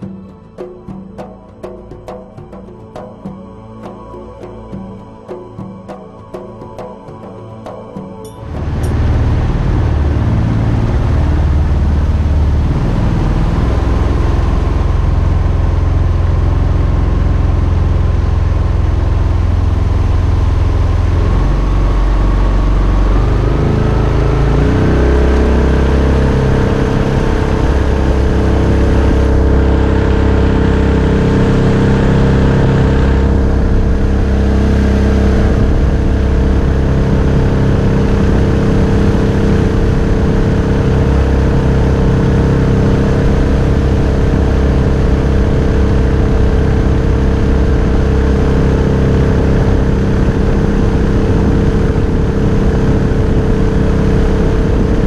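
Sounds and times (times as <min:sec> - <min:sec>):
boat engine running: 0:08.3 - 0:55.0.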